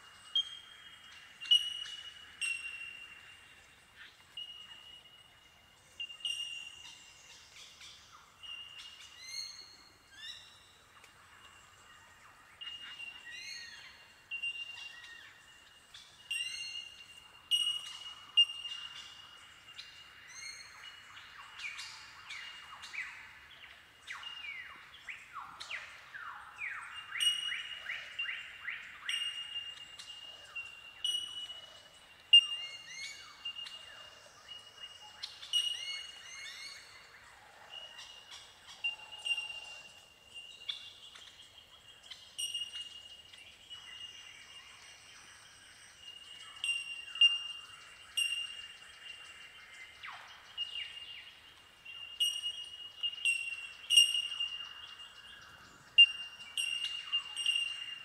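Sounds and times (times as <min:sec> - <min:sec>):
birds ringing bell-like calls: 0:00.0 - 0:58.0.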